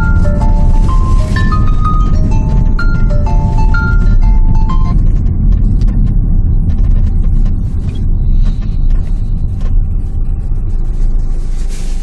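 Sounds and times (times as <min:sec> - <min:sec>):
car cabin rumble while driving: 0:00.0 - 0:12.0.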